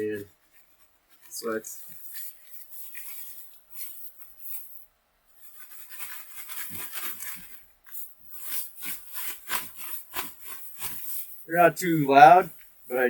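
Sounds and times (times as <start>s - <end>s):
fabric rustling and swishing: 0.3s - 13.0s.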